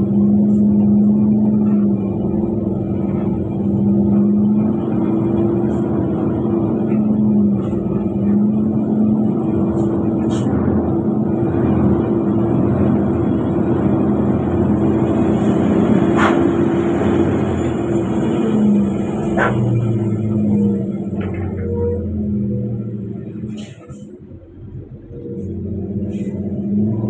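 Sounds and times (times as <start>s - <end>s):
road rumble: 0.0s - 27.0s
truck engine drone from cab: 0.0s - 27.0s.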